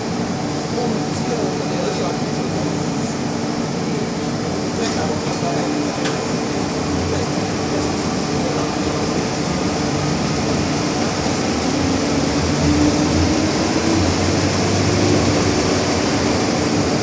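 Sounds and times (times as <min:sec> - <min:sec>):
subway wheels rumbling on track: 0:00.0 - 0:17.0.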